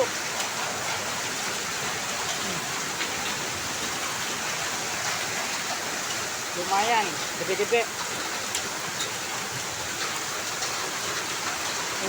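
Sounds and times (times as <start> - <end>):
rain and hail pouring down: 0.0 - 12.0.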